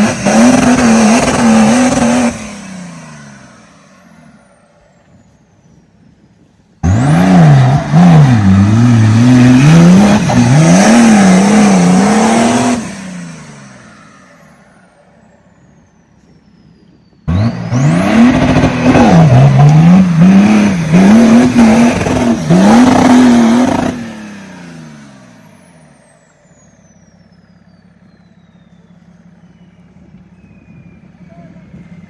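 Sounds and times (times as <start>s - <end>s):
off-road vehicle engine revving: 0.0s - 5.8s, 6.8s - 32.0s.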